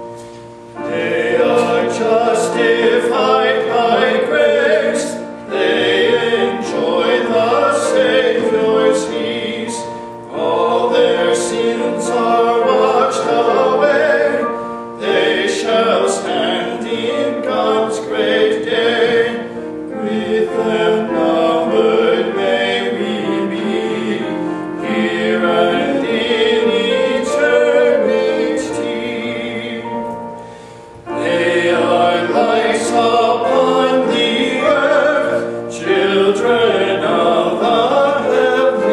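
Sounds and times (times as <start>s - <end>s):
two men singing a hymn: 0.0s - 38.9s.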